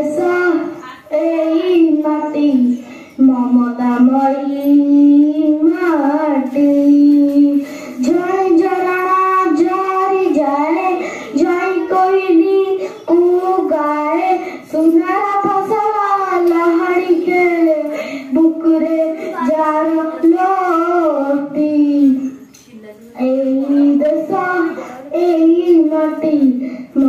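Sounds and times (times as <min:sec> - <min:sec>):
girl singing into microphone: 0:00.0 - 0:27.0.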